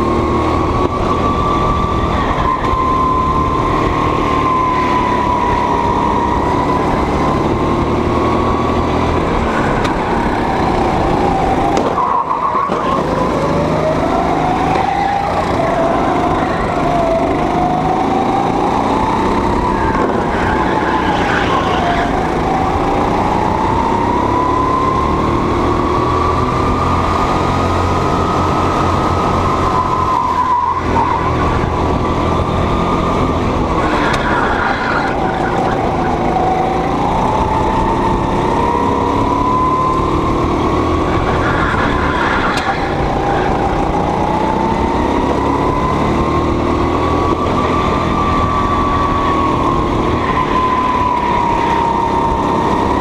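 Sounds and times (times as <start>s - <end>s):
go-kart engine running: 0.0s - 53.0s.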